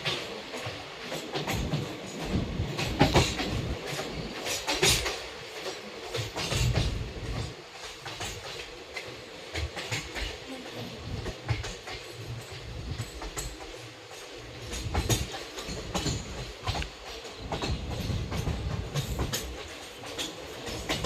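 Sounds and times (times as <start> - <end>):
train rumbling: 0.0 - 21.0
wheels clacking over rail joints: 0.0 - 21.0.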